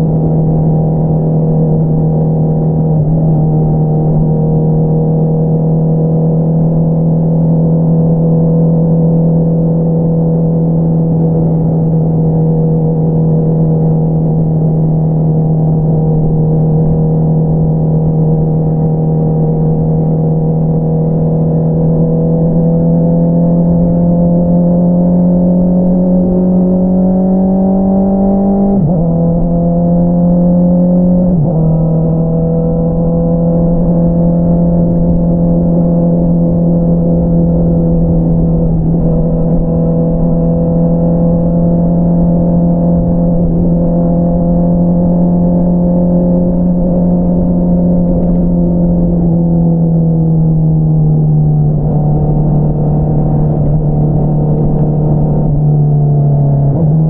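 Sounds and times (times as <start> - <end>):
motorcycle engine cruising and accelerating: 0.0 - 57.0.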